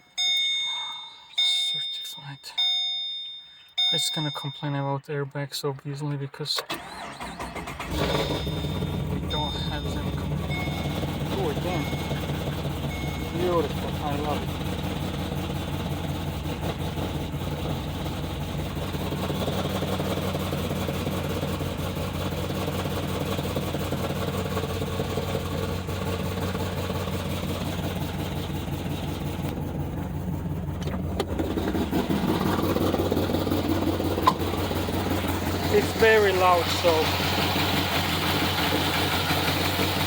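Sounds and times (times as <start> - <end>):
car engine idling: 6.6 - 40.0.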